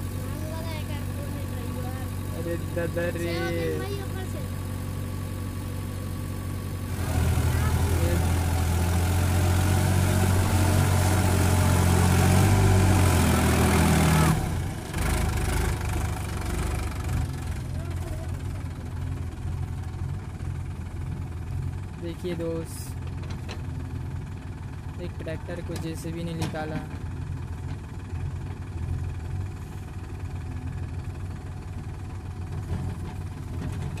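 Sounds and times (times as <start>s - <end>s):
backhoe loader diesel engine: 0.0s - 34.0s
tractor diesel engine running: 0.0s - 34.0s.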